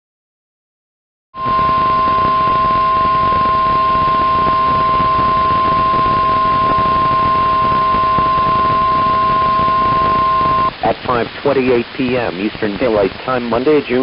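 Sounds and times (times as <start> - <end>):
radio alarm tone: 1.4 - 13.1
radio hiss: 1.4 - 14.0.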